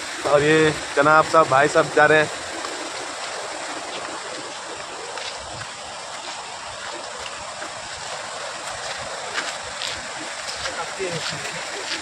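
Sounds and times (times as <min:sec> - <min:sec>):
grass rustling: 0:00.0 - 0:12.0
running water rushing: 0:00.0 - 0:12.0.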